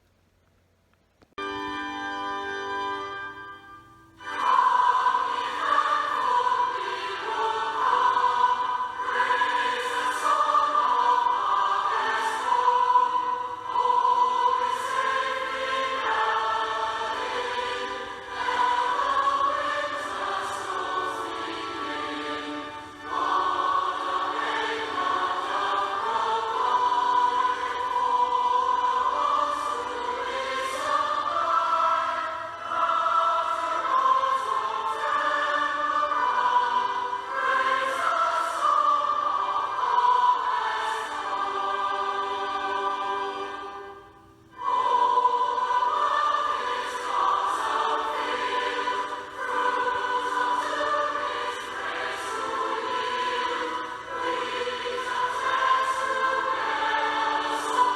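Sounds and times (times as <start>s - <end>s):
choir singing: 4.2s - 57.9s.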